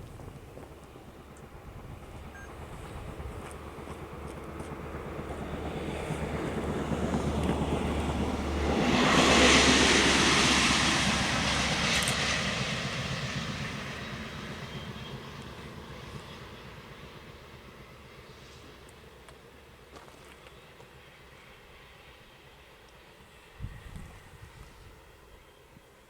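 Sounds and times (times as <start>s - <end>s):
train passing by: 0.0s - 26.0s.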